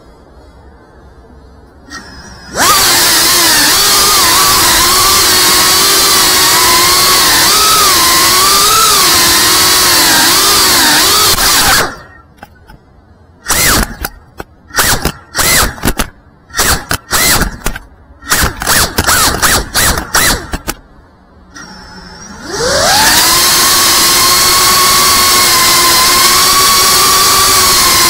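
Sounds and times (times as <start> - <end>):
quadcopter motors whining: 1.8 - 12.3, 13.4 - 20.8, 21.5 - 28.0.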